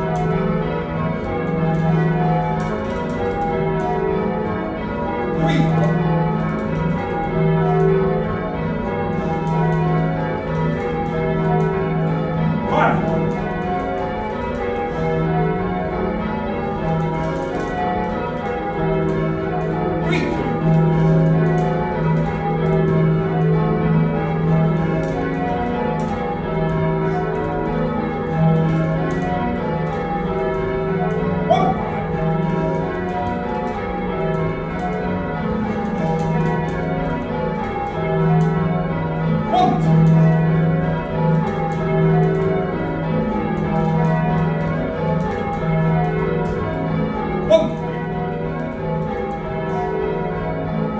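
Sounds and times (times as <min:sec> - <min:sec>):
church bells change ringing: 0:00.0 - 0:50.9.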